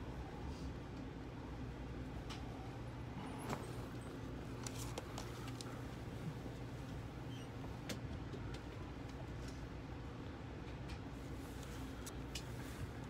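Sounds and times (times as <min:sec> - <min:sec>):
train rumble and hum: 0:00.0 - 0:13.0.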